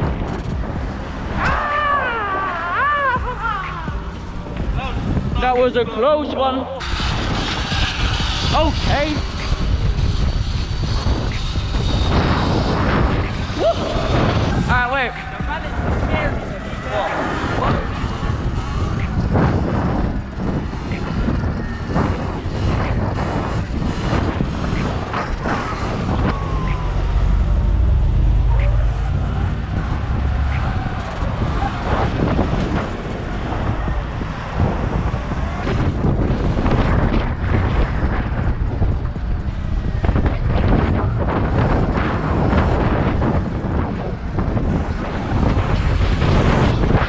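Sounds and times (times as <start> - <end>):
surrounding car traffic: 0.0 - 47.0
wind buffeting microphone: 0.0 - 47.0.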